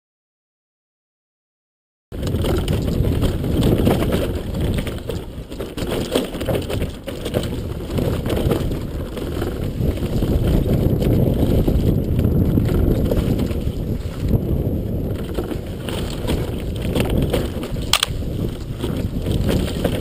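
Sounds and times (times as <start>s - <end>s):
bicycle knocks and rattles: 2.1s - 20.0s
wind rushing over microphone: 2.1s - 20.0s.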